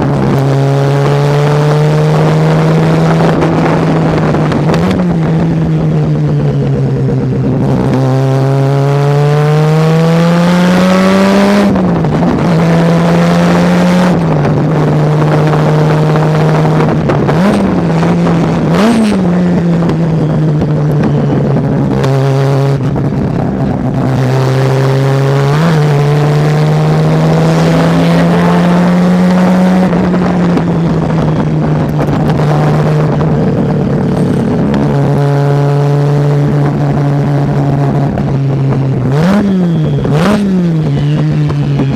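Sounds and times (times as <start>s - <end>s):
rotary engine revving: 0.0s - 41.9s.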